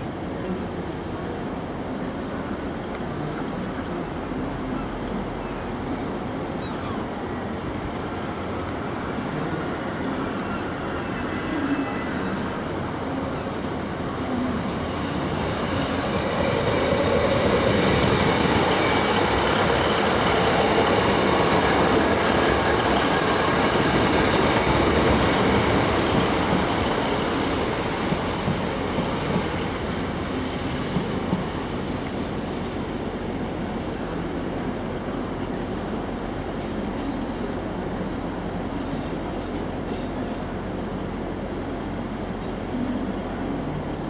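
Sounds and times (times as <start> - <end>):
diesel train passing: 0.0 - 44.0.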